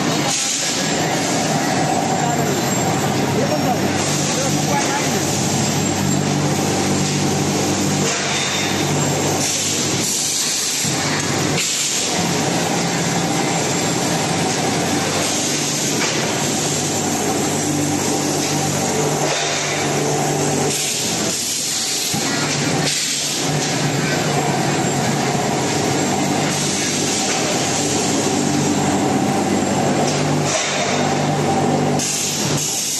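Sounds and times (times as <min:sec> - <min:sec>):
pipe mill machinery humming: 0:00.0 - 0:32.9.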